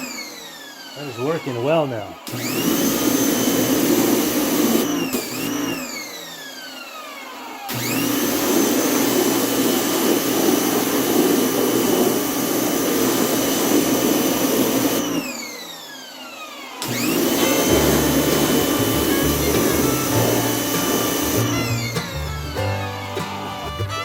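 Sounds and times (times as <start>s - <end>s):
pressure washer motor whine: 0.0s - 23.9s.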